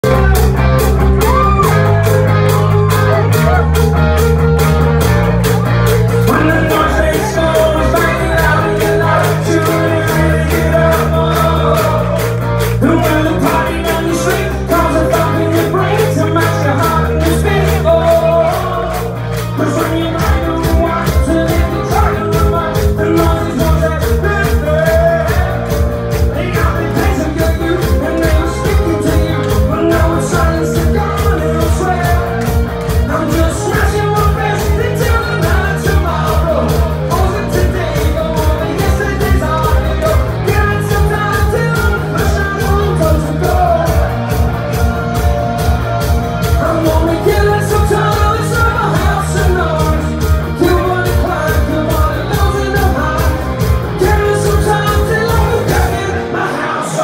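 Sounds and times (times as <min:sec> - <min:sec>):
hard rock band playing: 0:00.0 - 0:57.0
male lead vocal: 0:00.0 - 0:57.0.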